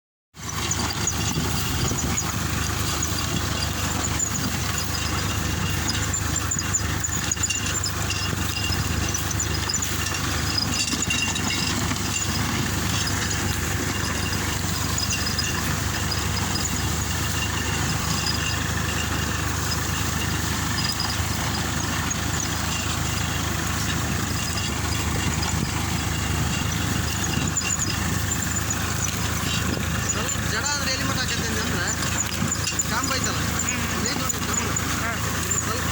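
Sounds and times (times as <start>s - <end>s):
tractor diesel engine running: 0.3s - 35.9s.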